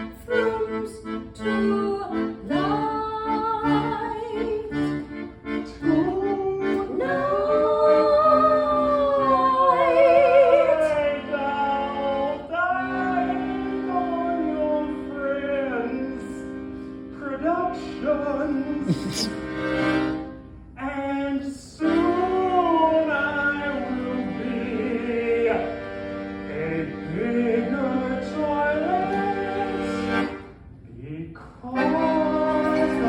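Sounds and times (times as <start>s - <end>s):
person singing with vibrato: 0.0s - 19.7s, 20.8s - 33.0s
accordion playing chords: 0.0s - 20.8s, 21.7s - 30.8s, 31.6s - 33.0s.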